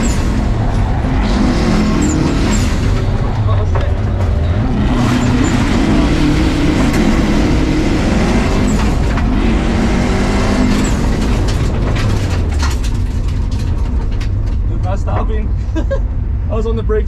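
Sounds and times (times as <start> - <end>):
rally car engine revving: 0.0 - 16.4.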